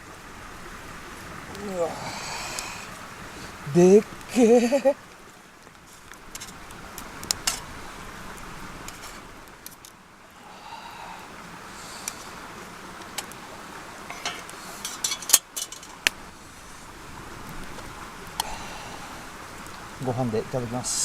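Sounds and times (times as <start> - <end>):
stream running: 0.0 - 21.0.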